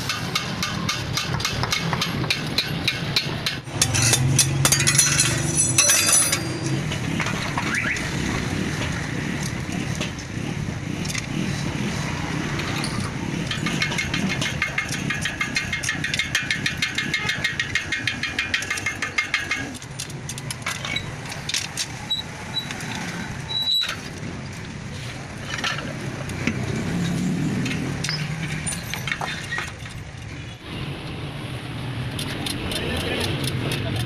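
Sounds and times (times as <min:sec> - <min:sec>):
metal spokes clicking: 0:00.0 - 0:10.4, 0:11.0 - 0:30.4, 0:32.1 - 0:34.0.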